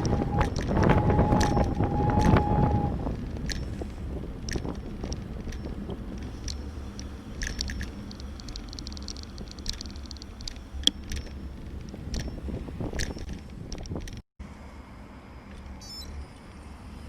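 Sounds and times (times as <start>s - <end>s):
bicycle clicks and rattles: 0.0s - 14.2s
wind rumble on microphone: 0.0s - 14.2s.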